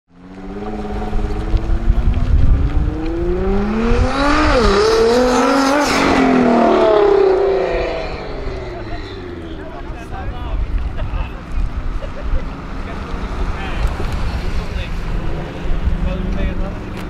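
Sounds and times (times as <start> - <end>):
car engine accelerating hard: 0.2 - 17.0.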